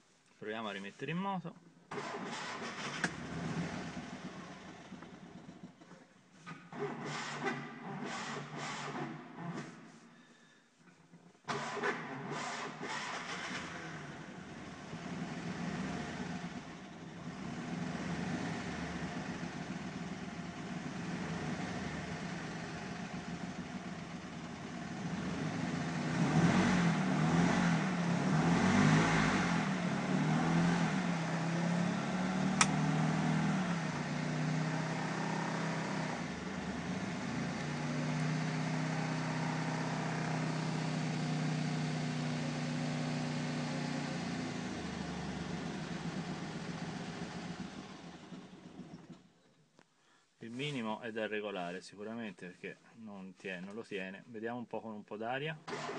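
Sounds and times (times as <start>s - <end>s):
small car engine starting and idling: 1.8s - 49.4s, 55.5s - 55.9s.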